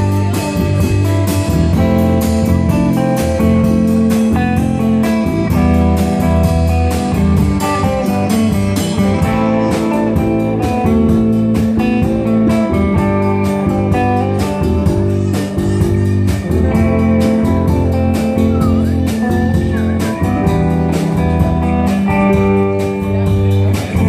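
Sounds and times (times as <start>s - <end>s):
drum kit beat: 0.0s - 24.0s
electric guitars: 0.0s - 24.0s.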